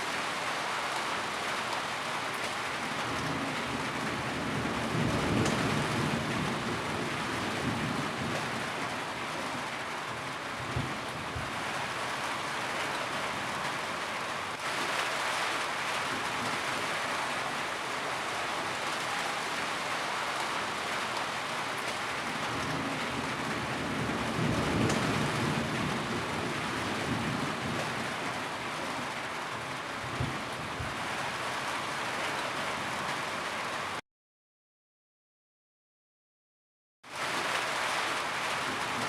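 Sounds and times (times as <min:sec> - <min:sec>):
rain falling on a roof: 0:00.0 - 0:34.0, 0:37.0 - 0:39.0.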